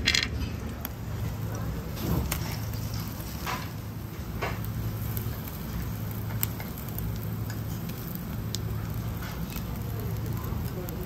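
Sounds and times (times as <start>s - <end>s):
grill ticks and pops: 0.0s - 11.0s.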